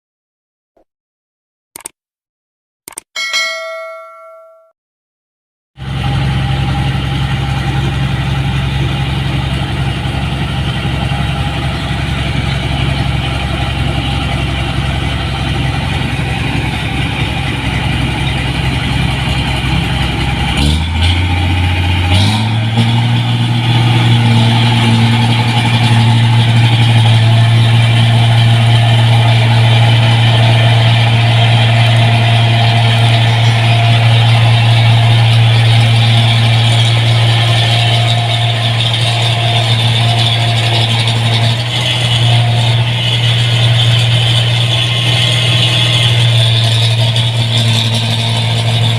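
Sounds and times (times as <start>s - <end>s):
combine harvester engine running: 5.8s - 48.9s.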